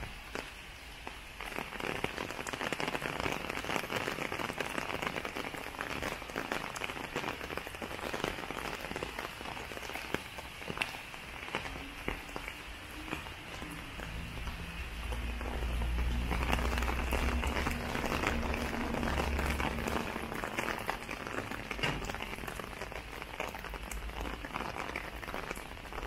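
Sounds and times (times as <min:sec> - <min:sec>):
rain on hard surfaces: 0:00.0 - 0:26.0.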